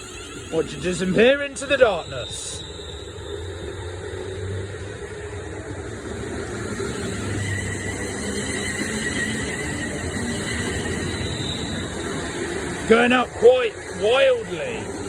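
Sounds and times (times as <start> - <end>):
electric train humming: 0.0 - 15.0
traction motor whine: 0.0 - 15.0.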